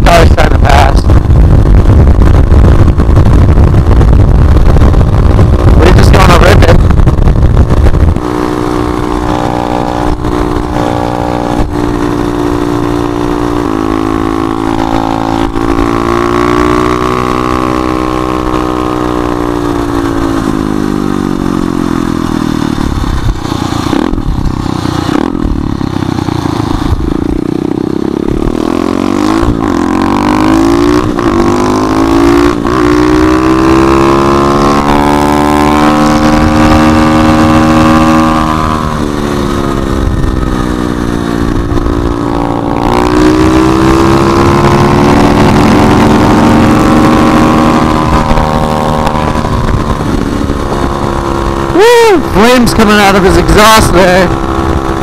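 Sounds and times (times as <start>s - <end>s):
motorbike engine revving: 0.0s - 55.0s
wind hitting microphone: 0.0s - 55.0s.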